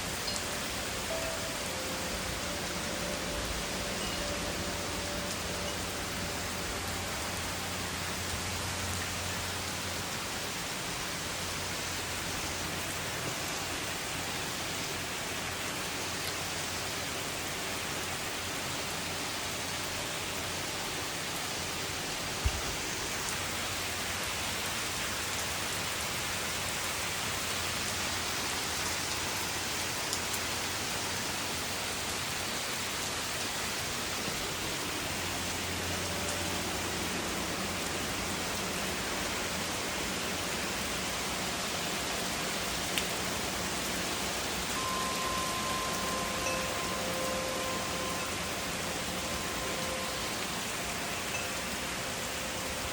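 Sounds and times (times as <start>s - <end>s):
heavy rain hissing: 0.0s - 52.9s.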